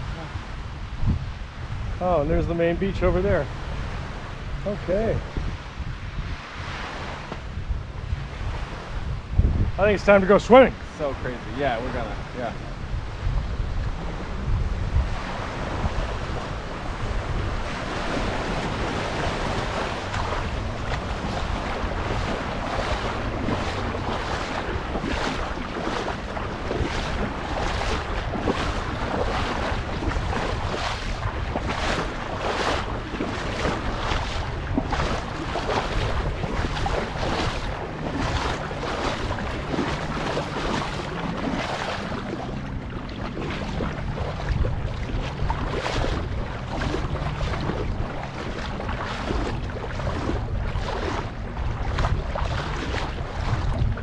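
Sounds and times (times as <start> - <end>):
wind rumble on microphone: 0.0 - 54.0
water sloshing around wading person: 10.0 - 54.0.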